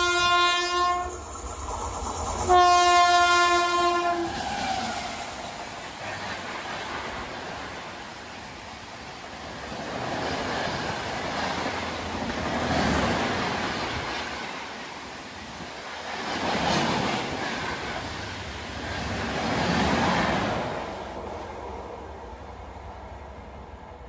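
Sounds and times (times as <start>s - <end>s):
train rushing past: 0.0s - 24.0s.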